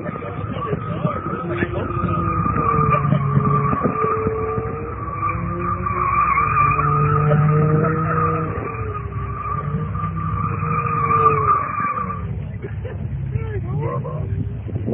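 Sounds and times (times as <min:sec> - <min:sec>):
tyres squealing: 0:00.0 - 0:12.4
car engine revving: 0:00.0 - 0:14.9.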